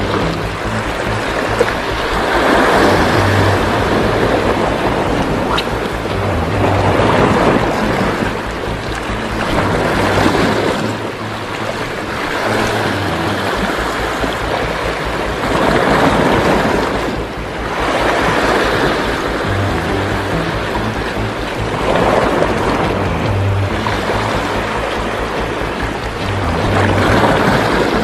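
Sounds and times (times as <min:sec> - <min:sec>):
sea waves breaking on rocks: 0:00.0 - 0:28.0.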